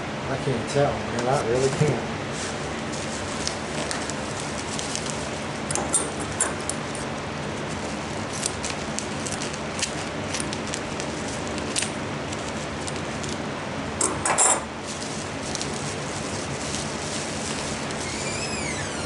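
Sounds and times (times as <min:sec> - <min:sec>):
packaging rustle: 0:02.3 - 0:13.4, 0:14.8 - 0:19.0
clicks and crinkles of bubble wrap: 0:02.4 - 0:13.5, 0:14.8 - 0:19.0.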